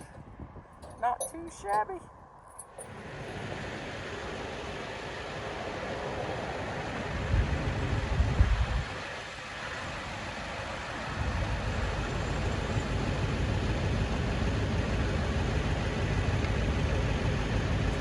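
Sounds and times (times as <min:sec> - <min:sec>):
large vehicle engine idling: 0:02.7 - 0:18.0.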